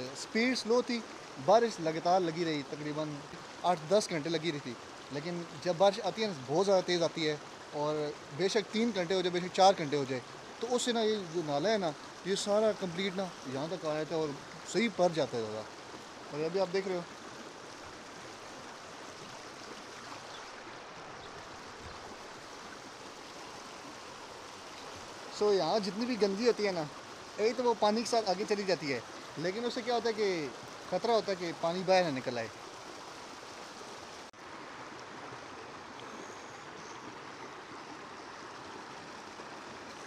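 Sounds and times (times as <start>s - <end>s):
water rushing over rocks: 0.0s - 36.2s.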